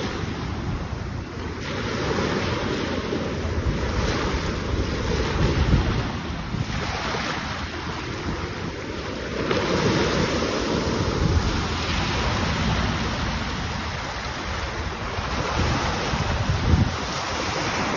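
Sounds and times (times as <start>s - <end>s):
small waves breaking on shore: 0.0s - 17.9s
wind on microphone: 0.0s - 17.9s.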